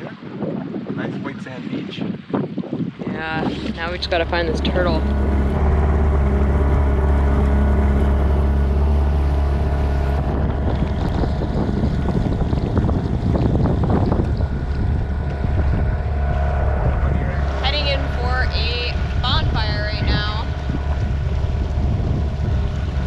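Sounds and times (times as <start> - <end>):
wind buffeting microphone: 0.0 - 23.0
boat motor humming: 3.1 - 23.0.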